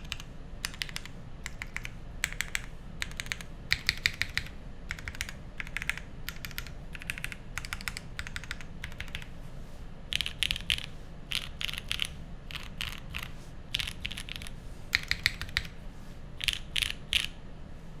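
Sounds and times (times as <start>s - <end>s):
mechanical keyboard typing: 0.0s - 9.3s, 10.1s - 15.8s, 16.4s - 17.3s.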